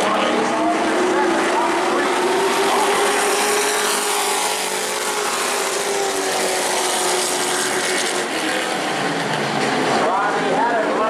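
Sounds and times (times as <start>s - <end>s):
racing truck engines: 0.0s - 11.0s.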